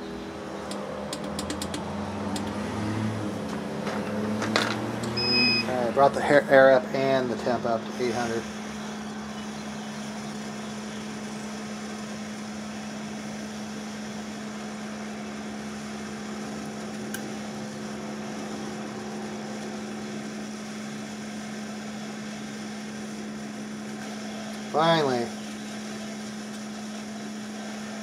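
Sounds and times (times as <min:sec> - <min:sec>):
hot air blower whirring: 0:00.0 - 0:28.0.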